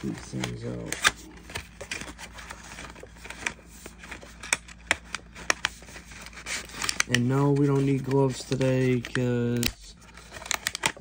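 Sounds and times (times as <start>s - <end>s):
cardboard rubbing: 0.0s - 11.0s.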